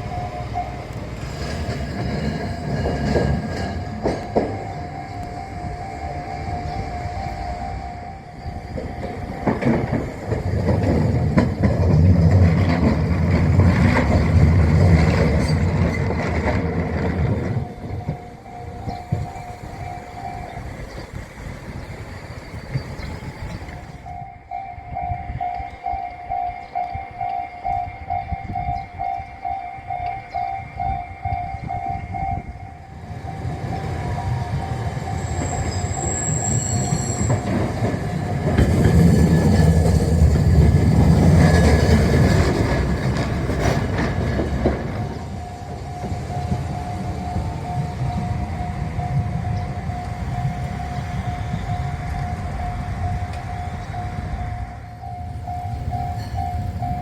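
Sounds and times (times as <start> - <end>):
level crossing alarm ringing: 0.0 - 57.0
train rumble with wheel clatter: 0.0 - 57.0.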